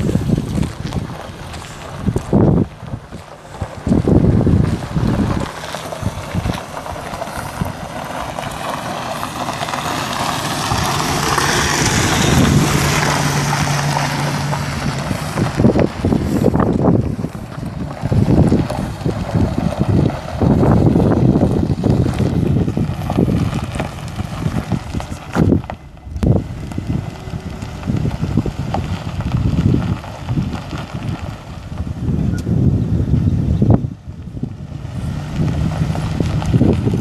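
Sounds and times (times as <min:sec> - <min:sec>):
pickup truck engine hum: 0:00.0 - 0:37.0
tyres on gravel: 0:00.0 - 0:37.0
wind buffeting microphone: 0:00.0 - 0:37.0.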